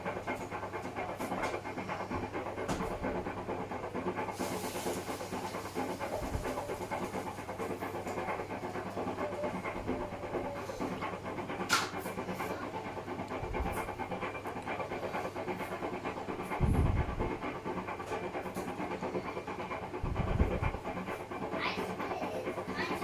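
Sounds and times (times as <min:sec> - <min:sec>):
washing machine humming and swishing: 0:00.0 - 0:23.0.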